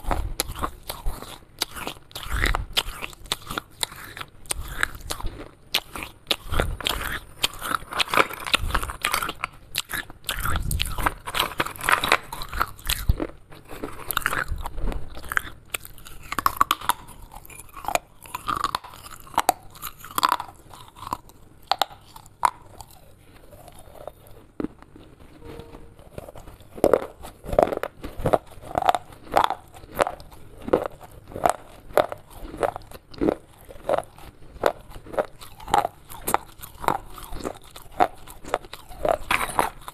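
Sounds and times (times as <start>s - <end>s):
chewing clay shards: 0.0s - 39.9s.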